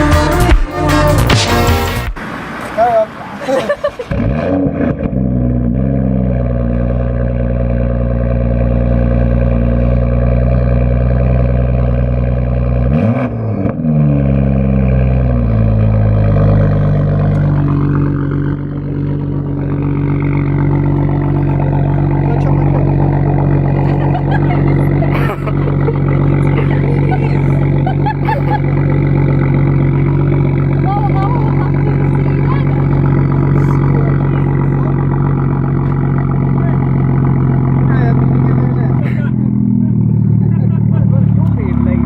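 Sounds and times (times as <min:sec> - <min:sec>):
car engine running: 0:00.0 - 0:03.1, 0:03.7 - 0:42.0.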